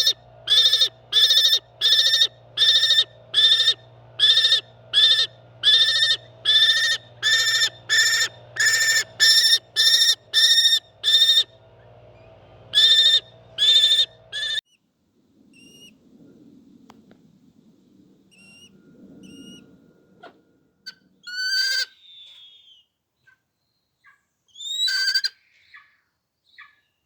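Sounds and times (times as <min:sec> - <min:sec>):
bird of prey calling: 0:00.0 - 0:14.8, 0:15.5 - 0:16.0, 0:18.3 - 0:19.8, 0:20.9 - 0:23.4, 0:24.0 - 0:27.0.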